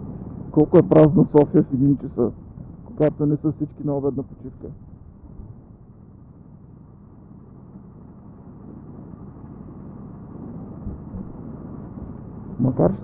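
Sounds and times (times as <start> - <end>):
motorcycle engine drone: 0.0 - 13.0
wind and road noise: 0.0 - 13.0.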